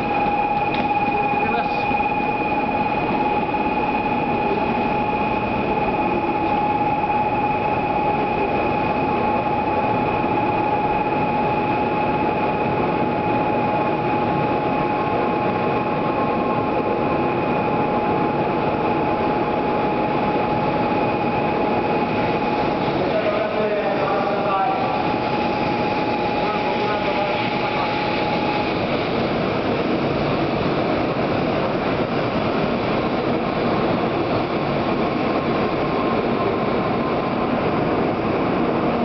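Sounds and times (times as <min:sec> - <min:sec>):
steady high whine: 0:00.0 - 0:39.0
train rolling rumble: 0:00.0 - 0:39.0.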